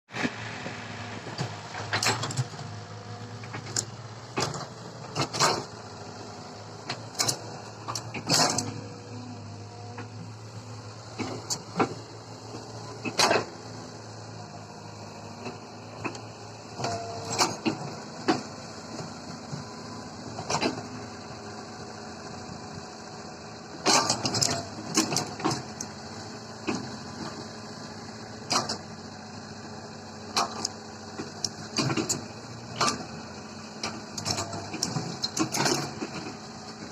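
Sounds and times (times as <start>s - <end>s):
heavy diesel machinery running: 0.1s - 36.9s.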